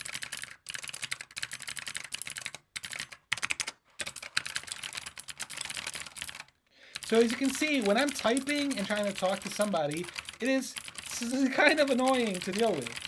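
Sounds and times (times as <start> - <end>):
fast typing on computer keyboard: 0.0 - 13.0.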